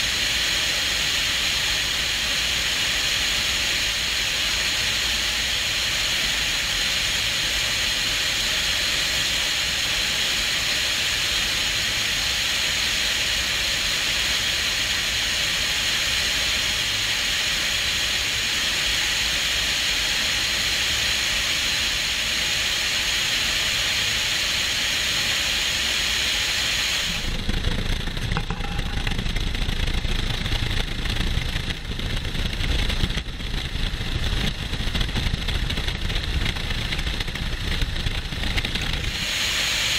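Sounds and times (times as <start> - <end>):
buffeting wind and rotor rumble: 0.0 - 39.9
helicopter airflow and turbine hiss: 0.0 - 39.9.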